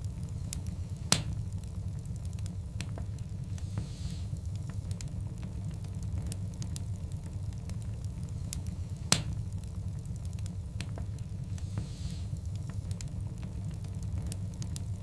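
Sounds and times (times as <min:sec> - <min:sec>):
burning logs crackling: 0:00.0 - 0:15.0
low roar of fire: 0:00.0 - 0:15.0.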